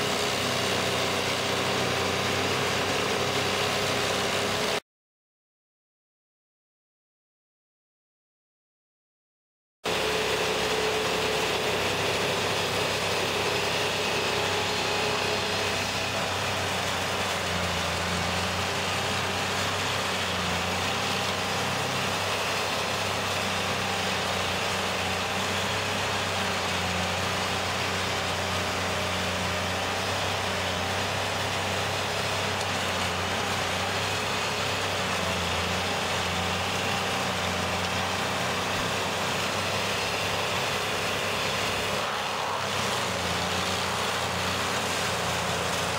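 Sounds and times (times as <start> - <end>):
stump grinder grinding wood: 0.0 - 4.8, 9.9 - 45.9.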